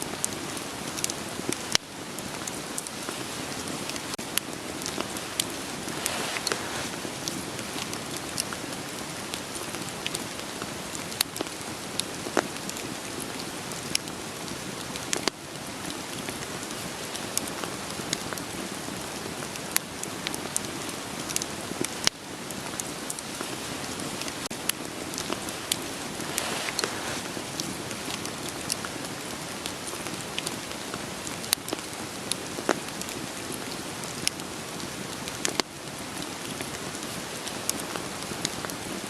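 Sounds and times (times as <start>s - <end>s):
steady rain falling: 0.0s - 39.0s
wood fire crackling and popping: 0.3s - 15.3s, 16.0s - 35.6s.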